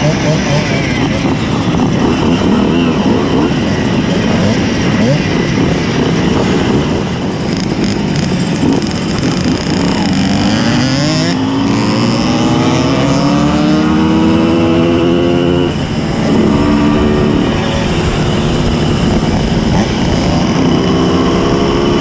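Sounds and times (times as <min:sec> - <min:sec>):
two-stroke moped engine revving: 0:00.0 - 0:22.0.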